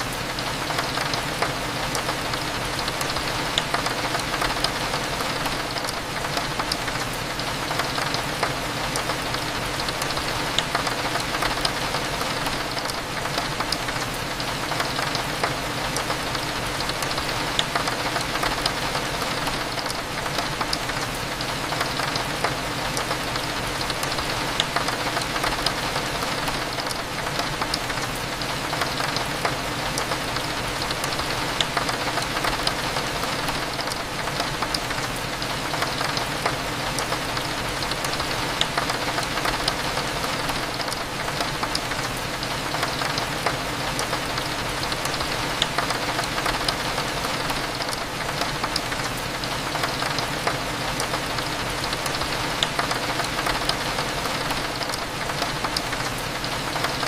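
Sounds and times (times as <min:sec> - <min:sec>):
raindrops ticking: 0:00.0 - 0:57.0
steady rain: 0:00.0 - 0:57.0.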